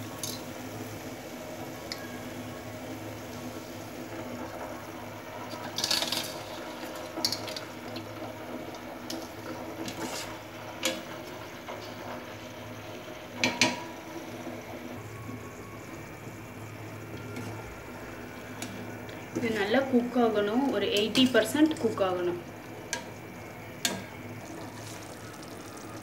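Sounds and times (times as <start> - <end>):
boiling water bubbling and sloshing: 0.0 - 26.0.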